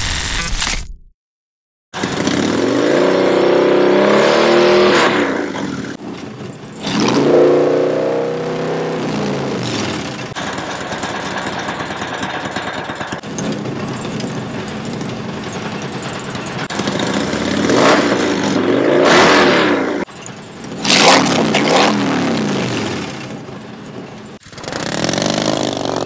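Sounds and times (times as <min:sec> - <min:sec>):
motorcycle engine revving and idling: 0:02.0 - 0:26.0.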